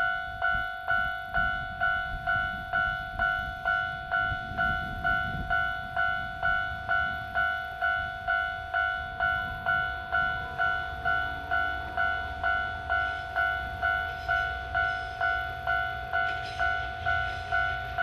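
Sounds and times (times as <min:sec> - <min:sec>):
diesel locomotive rumble: 0:00.0 - 0:18.0
level crossing alarm bell: 0:00.0 - 0:18.0.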